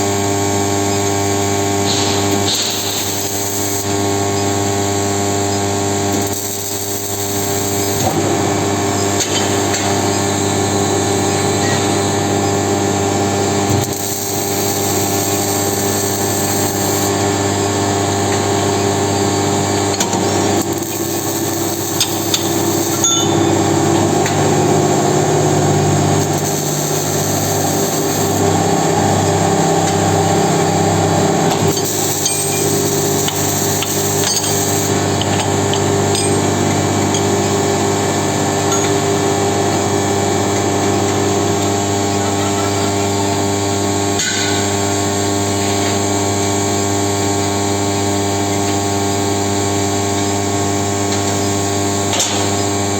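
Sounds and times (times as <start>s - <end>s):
electrical hum and whine: 0.0s - 52.9s.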